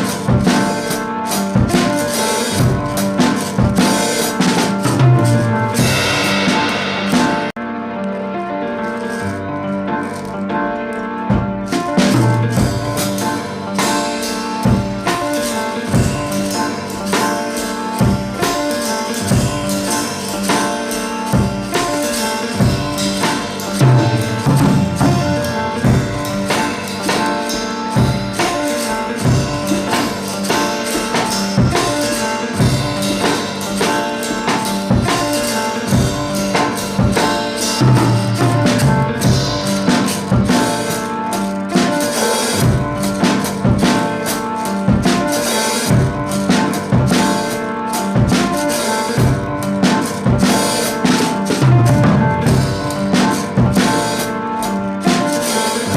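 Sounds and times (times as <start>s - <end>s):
pop music with drums: 0.0s - 7.6s, 11.3s - 41.0s, 41.7s - 54.3s.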